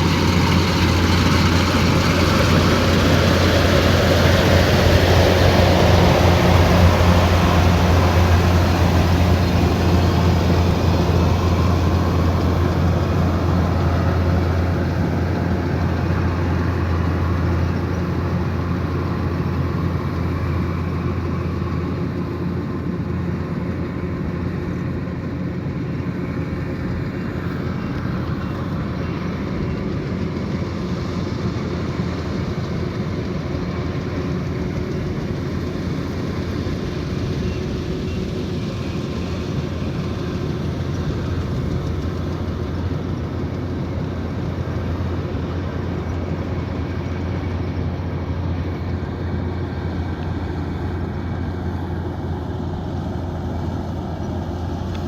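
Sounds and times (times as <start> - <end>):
combine harvester engine humming: 0.0 - 55.0.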